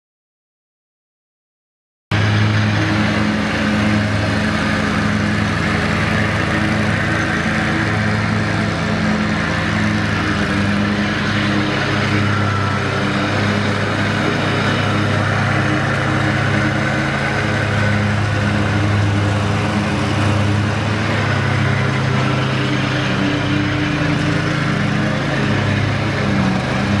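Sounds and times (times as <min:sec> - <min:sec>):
mower engine running: 0:02.1 - 0:27.0.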